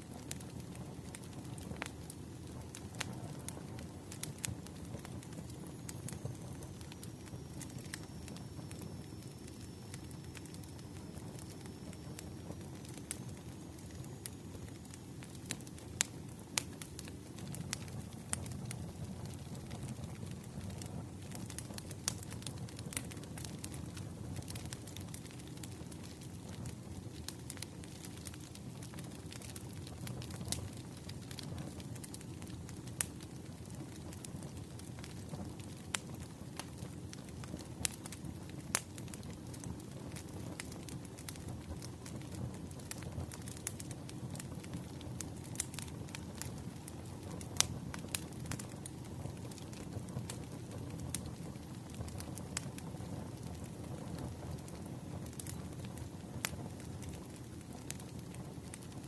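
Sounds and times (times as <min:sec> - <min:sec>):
fire crackles and pops: 0:00.0 - 0:59.0
firewood burning rumble: 0:00.0 - 0:59.0.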